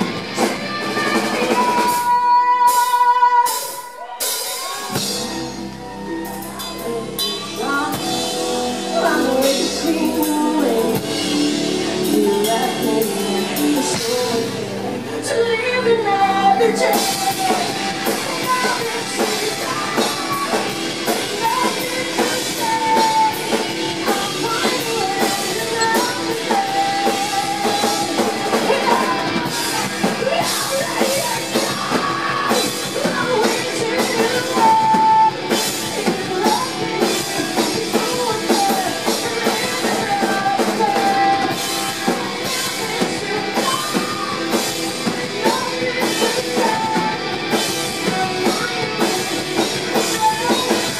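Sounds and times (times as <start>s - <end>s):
drum kit: 0.0s - 50.9s
electric guitars: 0.0s - 50.9s
woman singing: 0.0s - 50.9s.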